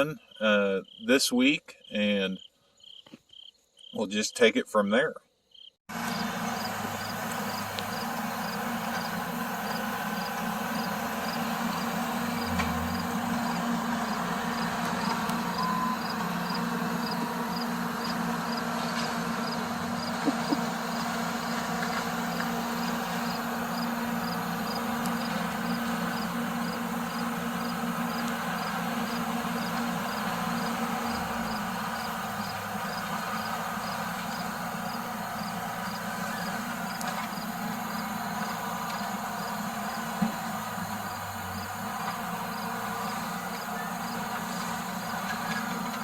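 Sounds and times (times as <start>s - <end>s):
diesel engine running: 5.9s - 46.0s.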